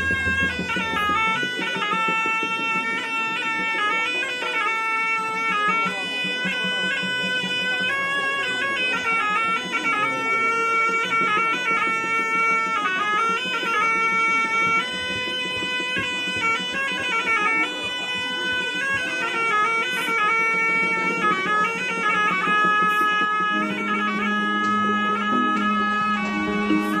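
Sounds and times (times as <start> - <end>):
bagpipe-like melody over drone: 0.0 - 27.0.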